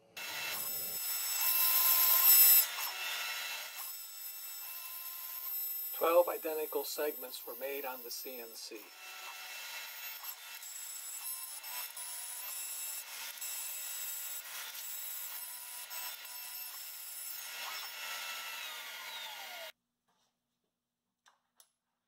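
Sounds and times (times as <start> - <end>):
end mill cutting wood: 0.2 - 19.7
router spindle whine: 0.2 - 19.7.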